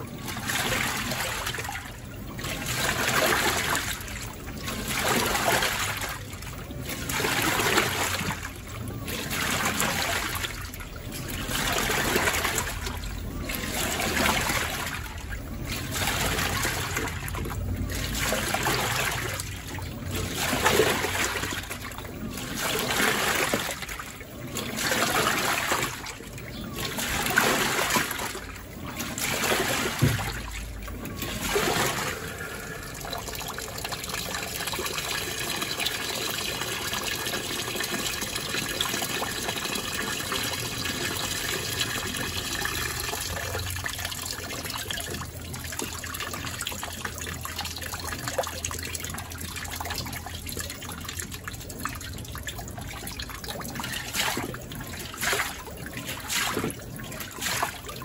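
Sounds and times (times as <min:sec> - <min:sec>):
water pouring into tub: 0:00.0 - 0:58.0
water sloshing in washing machine: 0:00.0 - 0:58.0.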